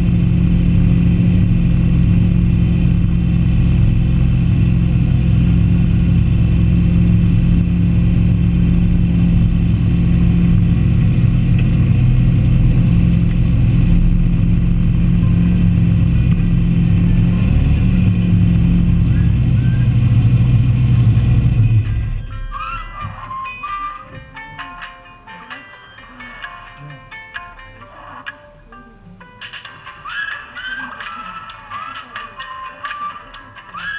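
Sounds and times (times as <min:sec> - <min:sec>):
sports car engine running: 0:00.0 - 0:33.9.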